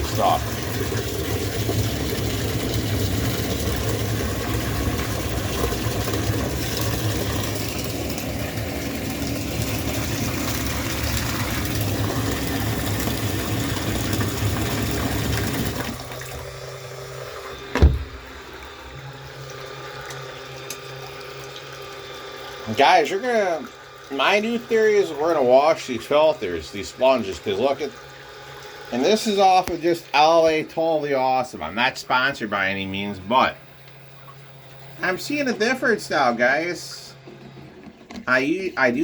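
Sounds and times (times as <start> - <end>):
washing machine motor hum: 0.0 - 39.0
water churning: 0.0 - 39.0.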